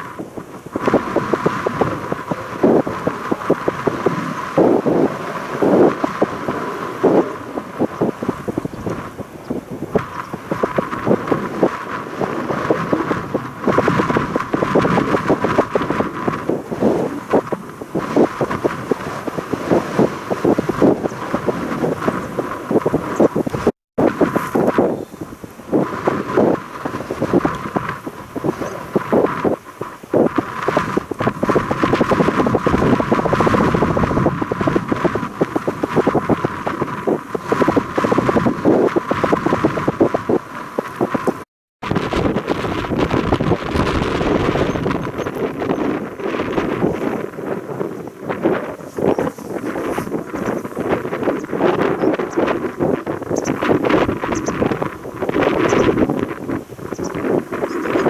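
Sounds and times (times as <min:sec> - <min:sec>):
wind buffeting the microphone: 0:00.0 - 0:58.0.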